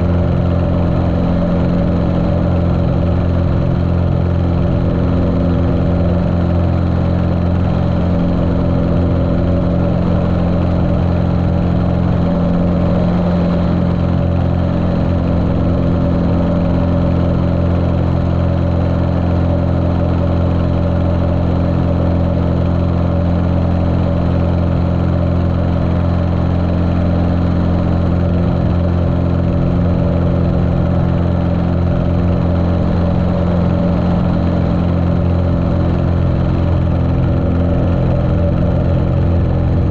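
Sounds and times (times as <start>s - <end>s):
muffled airplane engine running: 0.0s - 39.9s.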